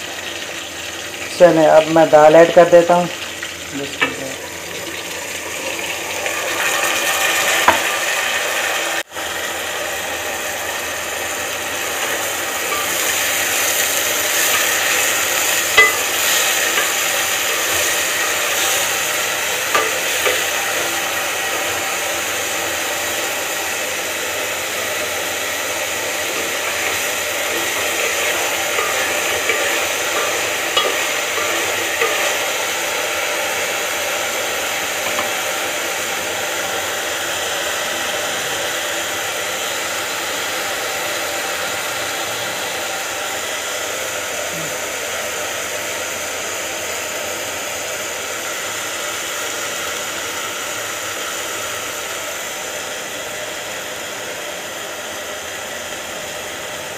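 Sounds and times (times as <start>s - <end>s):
frying hiss in oil: 0.0s - 56.9s.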